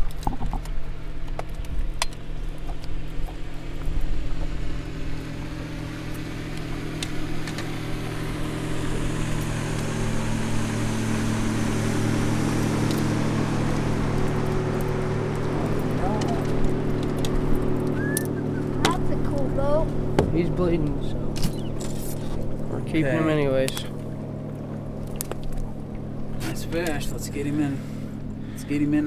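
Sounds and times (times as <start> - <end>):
outboard motor droning: 0.0 - 29.0.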